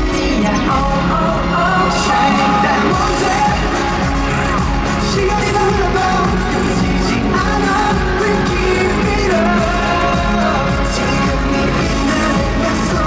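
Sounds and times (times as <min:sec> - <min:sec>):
dance music backing track: 0:00.0 - 0:13.0
person singing live: 0:00.0 - 0:13.0.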